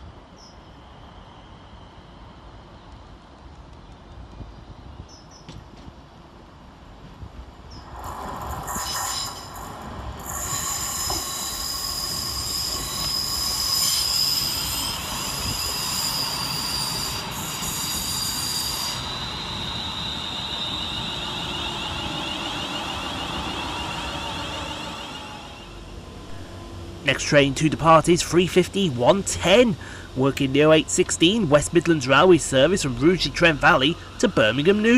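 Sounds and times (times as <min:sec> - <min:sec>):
train steady high whine: 0:00.0 - 0:34.9
train wheels and brakes squealing: 0:00.2 - 0:02.9, 0:07.7 - 0:34.9.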